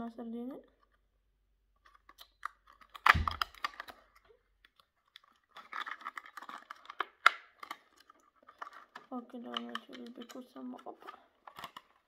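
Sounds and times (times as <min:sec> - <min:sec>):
plastic packaging crinkling: 0:01.8 - 0:12.0
plastic snapping: 0:01.8 - 0:12.0.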